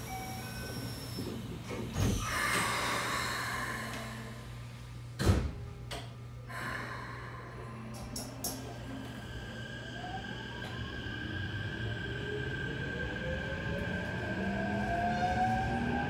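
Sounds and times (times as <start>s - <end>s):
train car low hum: 0.0s - 16.0s.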